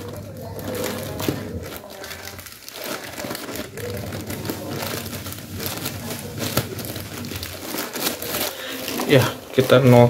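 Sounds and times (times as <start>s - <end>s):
plastic packaging rustling: 0.0s - 10.0s.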